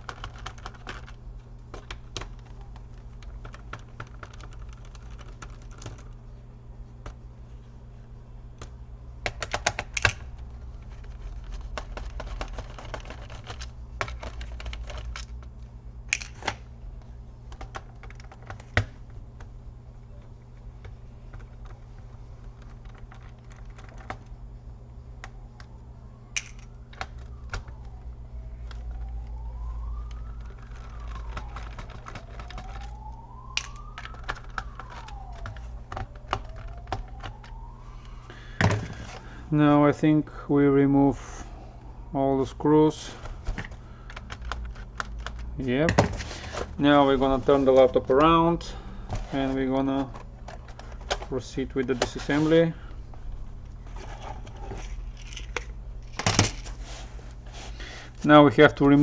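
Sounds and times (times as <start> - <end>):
low hum: 0.0 - 58.2.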